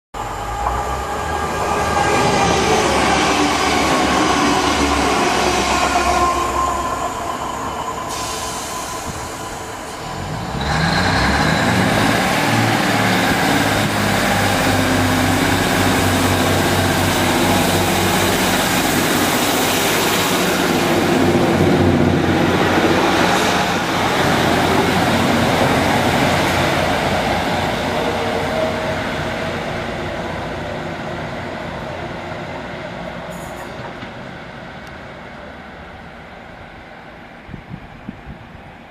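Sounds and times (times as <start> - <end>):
diesel train engines: 0.2 - 38.9.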